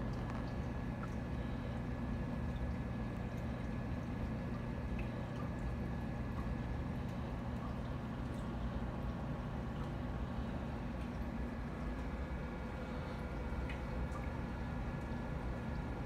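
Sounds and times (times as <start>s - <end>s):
low pump hum: 0.0s - 16.0s
water trickling: 0.0s - 16.0s.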